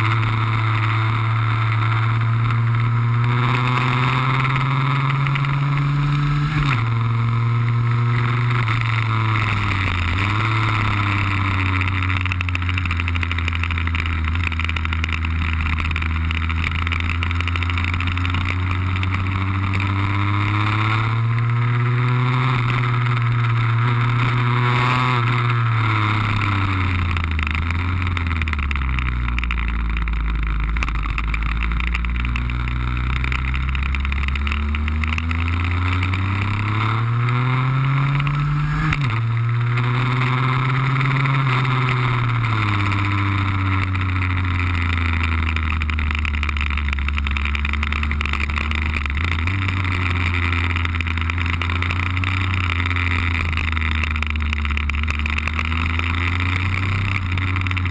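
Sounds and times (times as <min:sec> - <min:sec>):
scooter engine running: 0:00.0 - 0:57.9.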